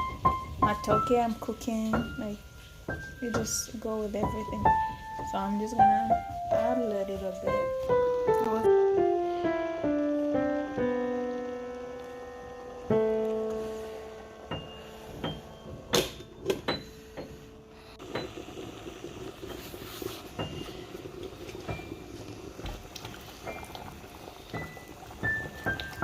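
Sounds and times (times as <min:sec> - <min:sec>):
faint piano music: 0:00.0 - 0:26.0.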